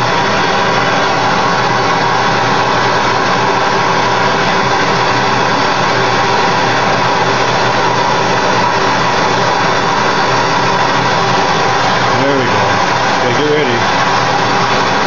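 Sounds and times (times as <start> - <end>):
gas torches hissing: 0.0 - 15.0.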